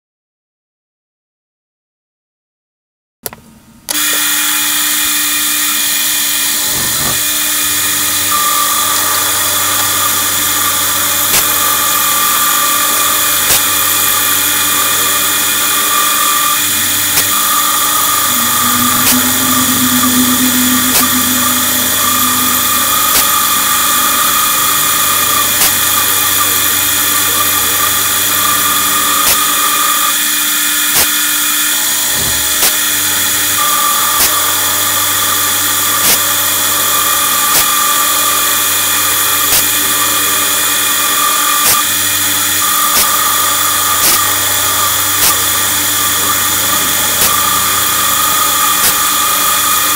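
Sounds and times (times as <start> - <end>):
milling machine spindle running: 3.9 - 49.9
whining tone: 3.9 - 49.9.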